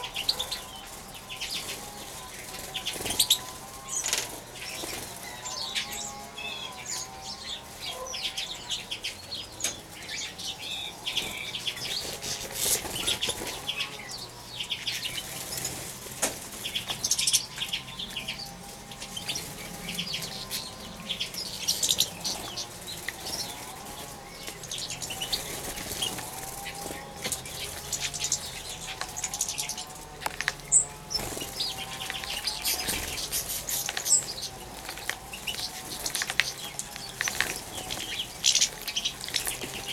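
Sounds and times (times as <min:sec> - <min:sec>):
birds wing-fluttering and splashing: 0:00.0 - 0:39.9.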